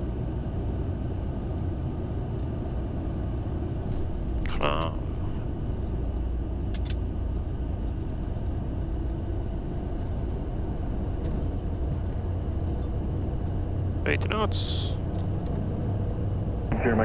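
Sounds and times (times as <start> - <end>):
jet landing rumble: 0.0 - 17.0.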